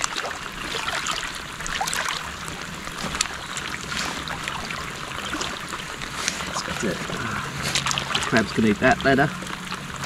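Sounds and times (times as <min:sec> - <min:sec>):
rain falling on water: 0:00.0 - 0:10.0.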